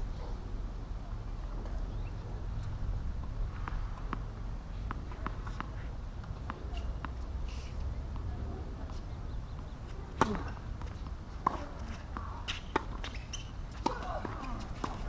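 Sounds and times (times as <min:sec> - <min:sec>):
tennis ball hit and bouncing: 0:02.6 - 0:15.0.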